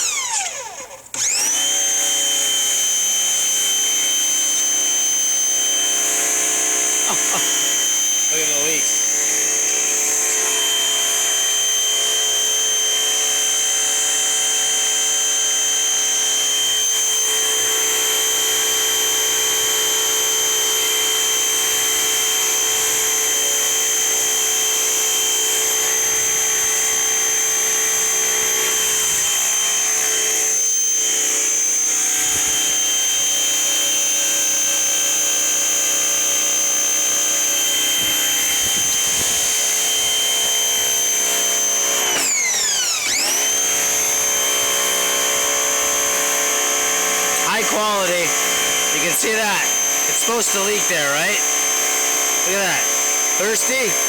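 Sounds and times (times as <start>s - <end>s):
pressure washer motor whine: 0.0s - 54.0s.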